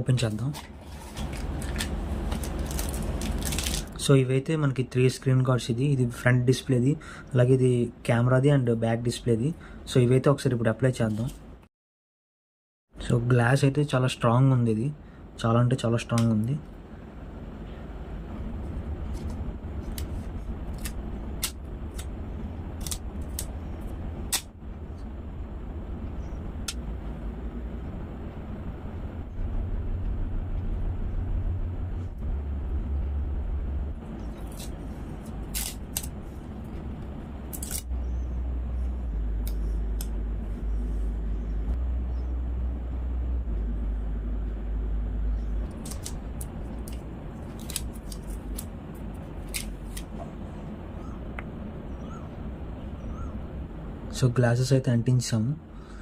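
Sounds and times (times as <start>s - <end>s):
low steady rumble: 0.0s - 11.6s, 13.0s - 56.0s.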